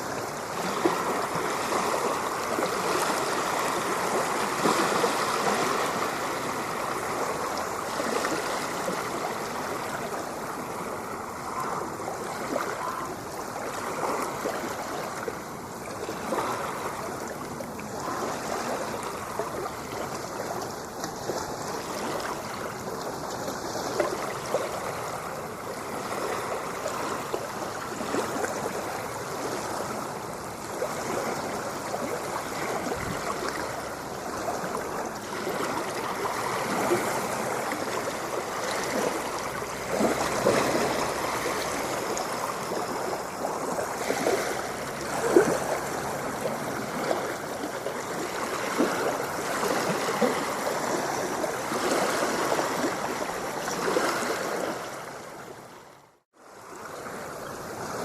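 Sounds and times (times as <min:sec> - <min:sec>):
ocean water washing: 0:00.0 - 0:58.0.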